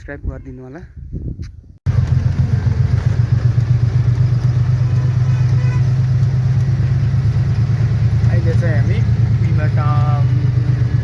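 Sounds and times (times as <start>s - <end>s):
truck engine rumbling: 1.9s - 11.0s.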